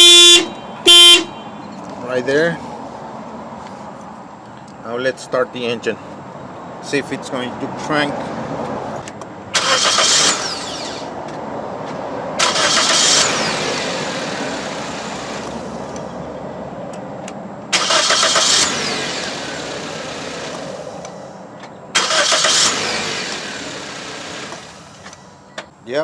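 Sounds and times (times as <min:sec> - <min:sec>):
car engine starting and running: 0:00.0 - 0:02.9, 0:07.3 - 0:25.7.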